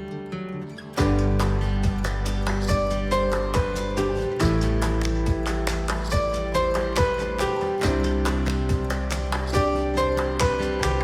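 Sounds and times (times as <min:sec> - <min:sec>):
acoustic guitar music with beat: 0:00.0 - 0:11.0.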